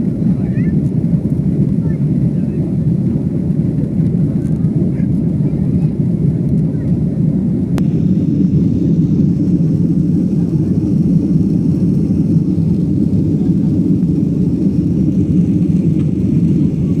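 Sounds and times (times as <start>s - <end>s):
jet airliner engines rumbling: 0.0s - 17.0s.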